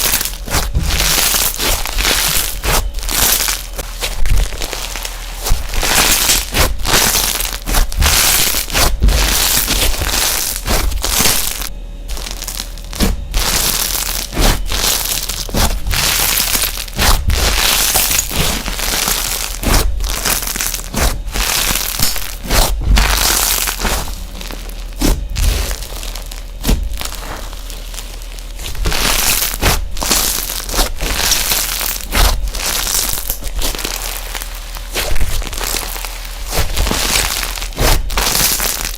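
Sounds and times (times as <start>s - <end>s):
crunchy slime crackling and popping: 0.0s - 38.9s.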